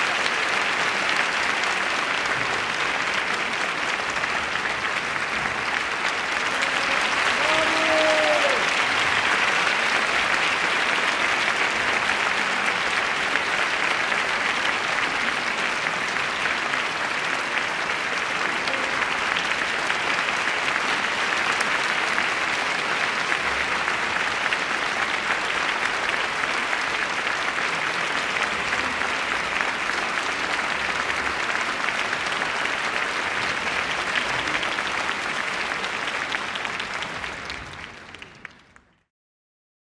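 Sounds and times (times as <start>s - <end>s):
audience applauding: 0.0s - 39.1s.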